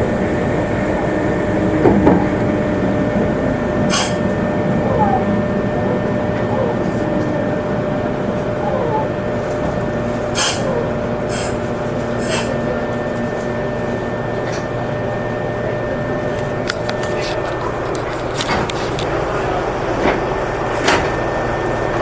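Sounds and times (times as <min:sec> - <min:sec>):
wheels clacking over rail joints: 0:00.0 - 0:14.9, 0:16.2 - 0:22.0
electric train whine: 0:00.0 - 0:22.0
train wheels rumbling on rail: 0:00.0 - 0:22.0.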